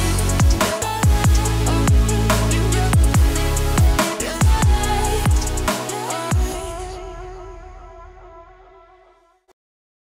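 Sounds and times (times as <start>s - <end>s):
held electronic chords: 0.0s - 8.3s
deep bass hit: 0.0s - 8.4s.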